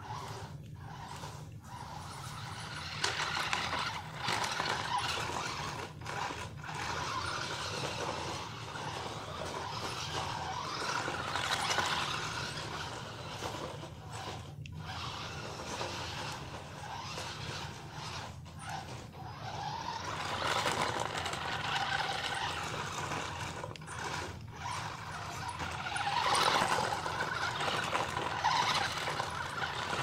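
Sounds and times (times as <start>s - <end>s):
toy car electric motor whirring: 0.0s - 30.0s
tyres rolling on stone paving: 0.0s - 30.0s.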